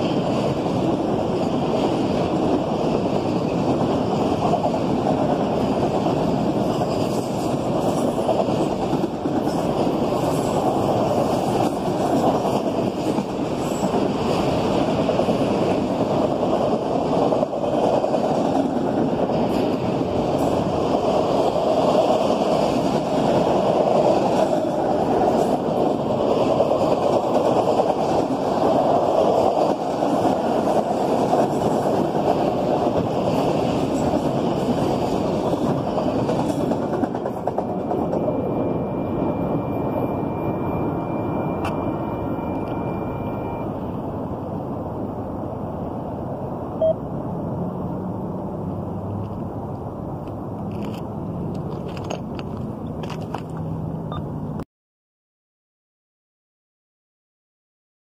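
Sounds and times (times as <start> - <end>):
freight train wheels on rails: 0.0 - 54.6.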